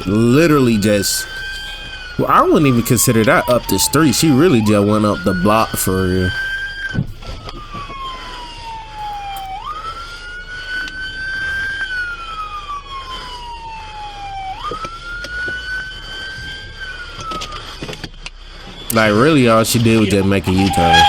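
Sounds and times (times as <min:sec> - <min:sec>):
police siren wailing: 0:00.0 - 0:17.8, 0:18.9 - 0:21.0.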